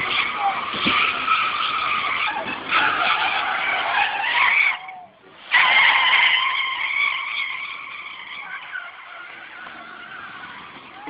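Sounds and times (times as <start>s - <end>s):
tyres screeching: 0.0s - 11.0s.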